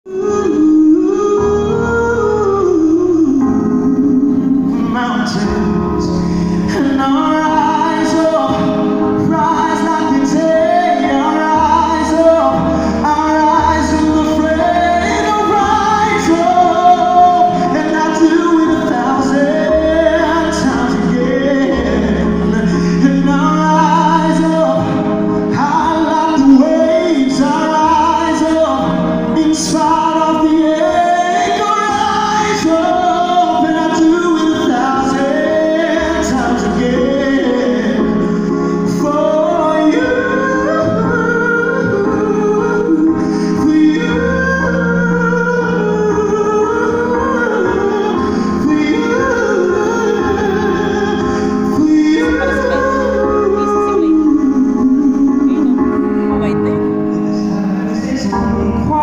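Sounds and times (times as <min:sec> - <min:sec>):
live band: 0:00.1 - 0:59.0
man singing slow song: 0:00.1 - 0:59.0.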